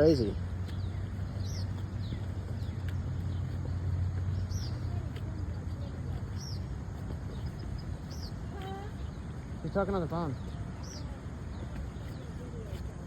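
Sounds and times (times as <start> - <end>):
birds chirping: 0.0 - 13.0
vehicle engine idling: 0.0 - 13.0.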